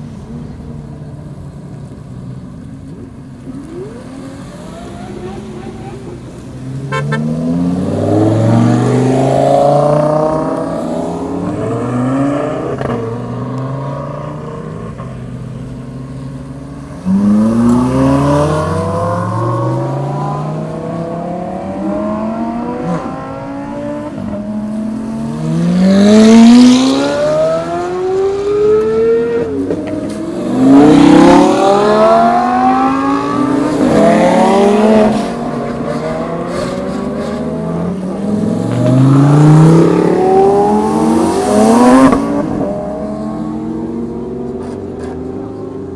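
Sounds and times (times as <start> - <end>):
sports cars revving and passing: 0.0 - 45.9.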